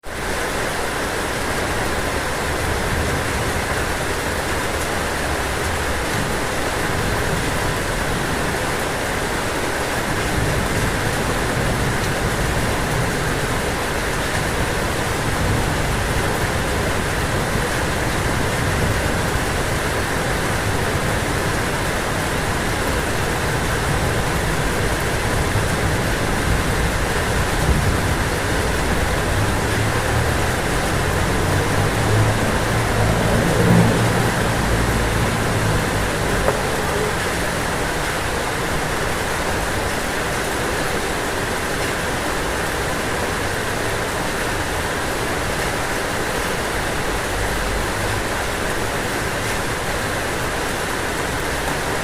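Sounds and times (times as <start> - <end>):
rain on a roof: 0.0 - 52.0.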